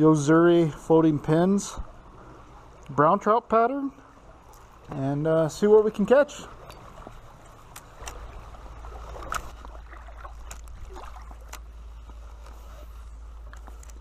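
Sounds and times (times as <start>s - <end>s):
creek water running: 0.0s - 12.6s.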